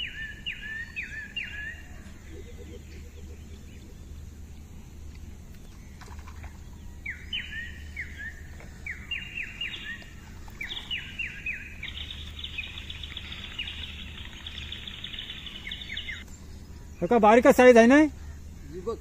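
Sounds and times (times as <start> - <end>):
bird trilling: 0.0 - 4.2, 5.9 - 19.0
songbird chirps: 0.0 - 19.0.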